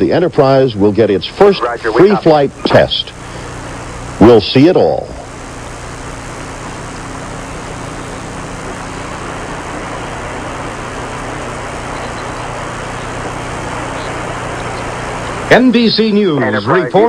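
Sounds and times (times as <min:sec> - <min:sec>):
jet engines droning: 0:00.0 - 0:17.0
steady low hum: 0:00.0 - 0:17.0.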